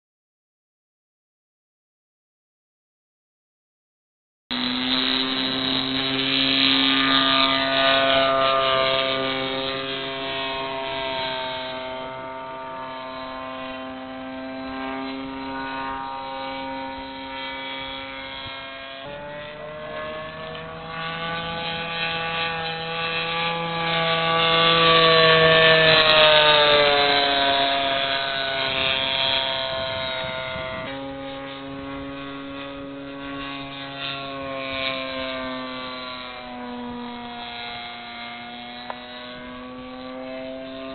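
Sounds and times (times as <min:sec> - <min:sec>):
model plane engine: 0:04.5 - 0:40.9.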